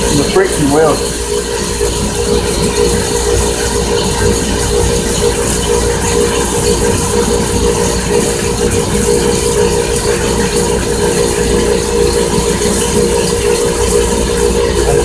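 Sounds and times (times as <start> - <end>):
machine hum with mechanical rattle: 0.0 - 15.0.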